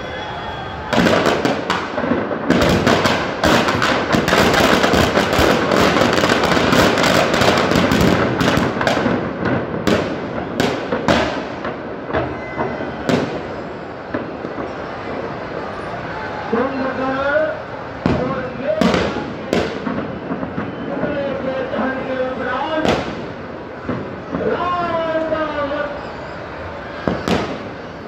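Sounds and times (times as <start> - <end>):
firecrackers banging: 0.0 - 28.0.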